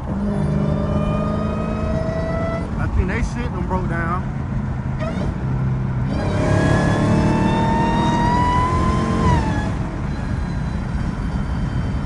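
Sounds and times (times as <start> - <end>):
car engine accelerating with whine: 0.0 - 12.0.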